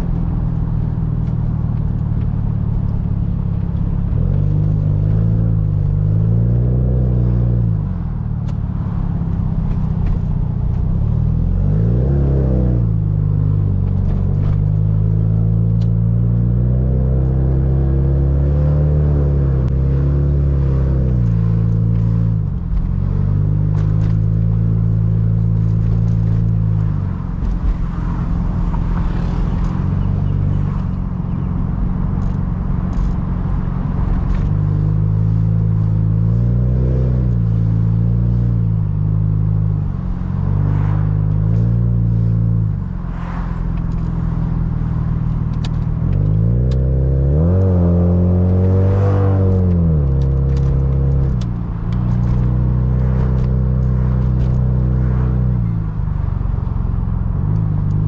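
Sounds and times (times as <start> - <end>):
car engine: 0.0 - 58.0
road noise: 0.0 - 58.0.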